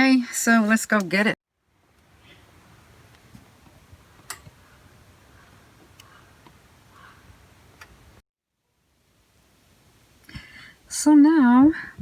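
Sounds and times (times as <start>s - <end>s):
faint background hiss: 0.4s - 12.0s.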